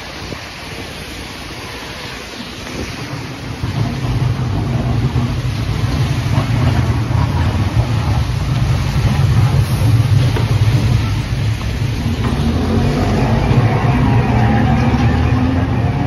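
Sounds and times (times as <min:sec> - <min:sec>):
electric tram motors humming: 0:00.0 - 0:16.0.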